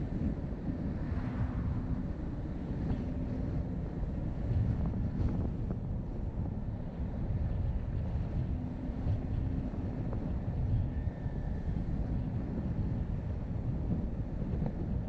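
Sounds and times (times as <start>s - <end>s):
car road and engine noise: 0.0s - 15.0s
wind buffeting microphone: 0.0s - 15.0s.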